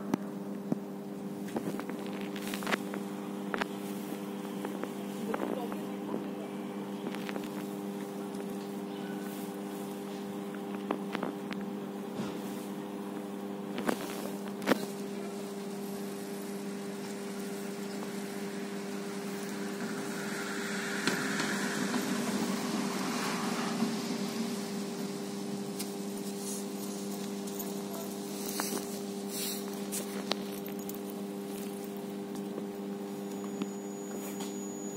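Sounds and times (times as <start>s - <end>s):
broad noise: 0.0s - 12.6s, 13.7s - 34.9s
electrical machine hum: 0.0s - 34.9s.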